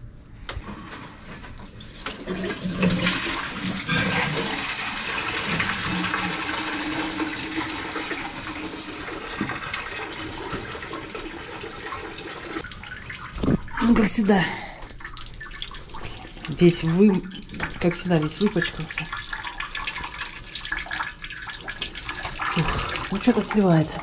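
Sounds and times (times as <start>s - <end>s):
coolant pouring and splashing: 1.2s - 24.0s.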